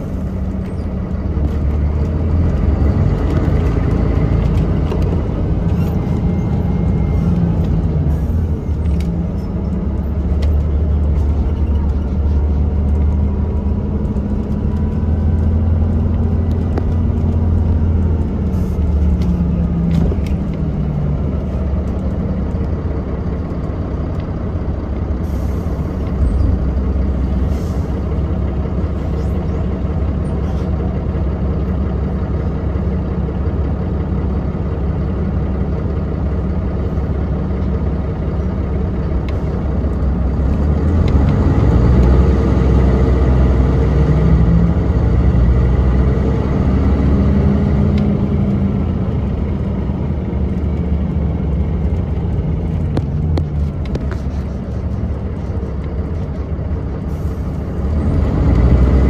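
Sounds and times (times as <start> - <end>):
bus engine from inside cabin: 0.0 - 59.0.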